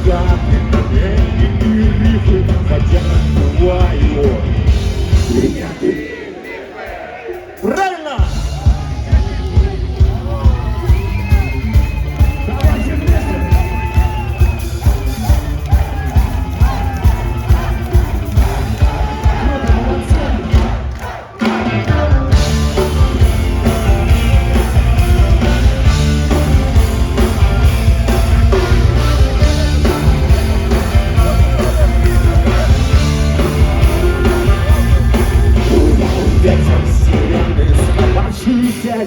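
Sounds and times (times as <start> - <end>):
punk rock band playing: 0.0 - 39.0.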